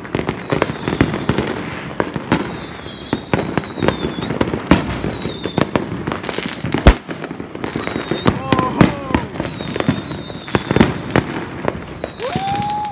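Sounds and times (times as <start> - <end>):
firework whistles falling in pitch: 0.0 - 12.9
fireworks bangs and crackling: 0.0 - 12.9.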